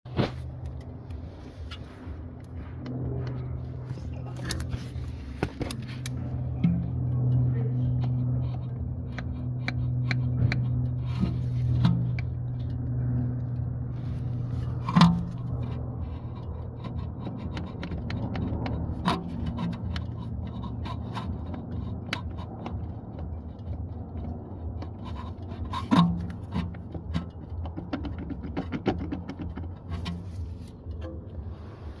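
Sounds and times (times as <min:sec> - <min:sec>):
car engine humming: 0:00.1 - 0:32.0
light clicks and scrapes: 0:00.1 - 0:32.0.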